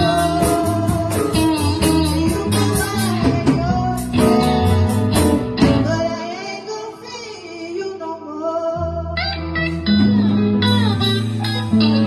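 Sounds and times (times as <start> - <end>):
guitar: 0.0 - 12.0
live blues band playing: 0.0 - 12.0.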